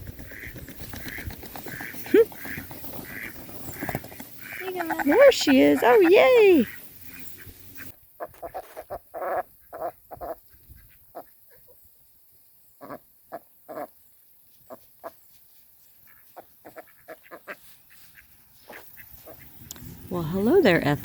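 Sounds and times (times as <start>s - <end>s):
ducks quacking softly: 0.1s - 11.8s, 12.8s - 14.0s, 15.9s - 20.6s.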